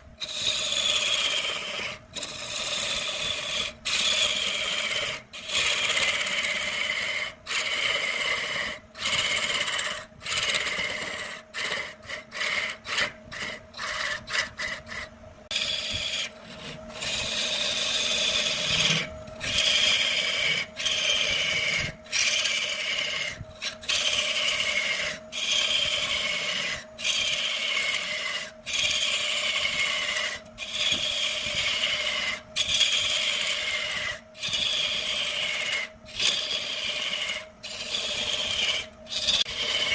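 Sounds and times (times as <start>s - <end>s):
lathe hum: 0.2s - 39.9s
lathe tool rasping wood: 0.2s - 39.9s.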